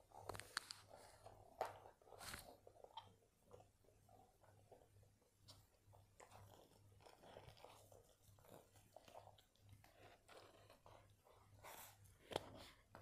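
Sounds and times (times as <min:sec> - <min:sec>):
faint chewing: 0:00.1 - 0:12.7.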